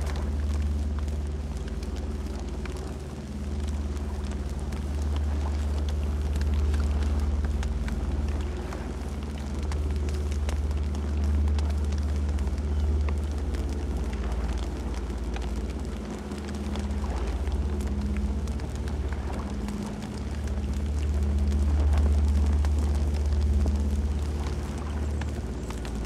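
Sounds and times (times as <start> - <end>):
campfire flames rumbling: 0.0 - 26.0
fire crackles: 0.0 - 26.0.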